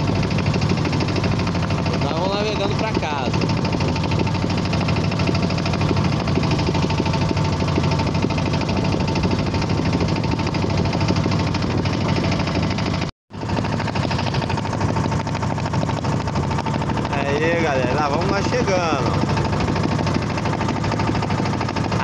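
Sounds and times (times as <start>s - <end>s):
boat engine running: 0.0s - 22.0s
water rushing along hull: 0.0s - 22.0s.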